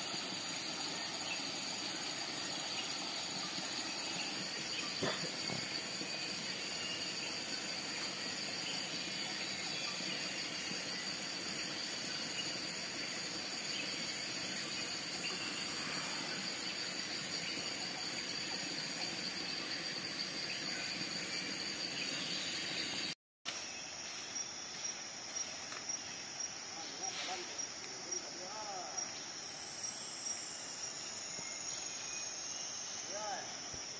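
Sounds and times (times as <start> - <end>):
high-pitched insect whine: 0.0 - 33.9.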